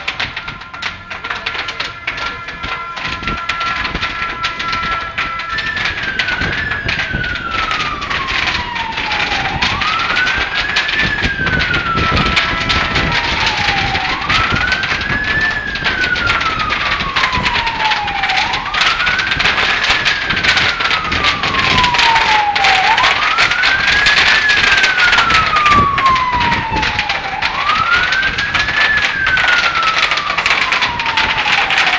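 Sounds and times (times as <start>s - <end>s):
emergency vehicle siren wailing: 0.0s - 31.9s
steady rushing noise: 0.0s - 31.9s.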